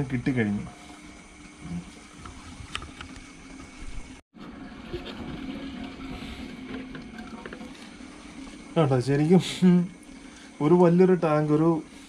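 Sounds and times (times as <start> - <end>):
aquarium pump hum: 0.0 - 12.0
moving water: 0.0 - 12.0.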